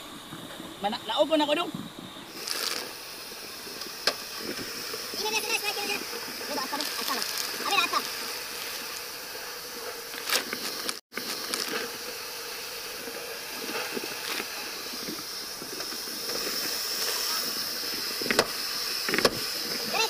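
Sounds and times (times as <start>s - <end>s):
fire hose water spraying: 0.0s - 20.0s.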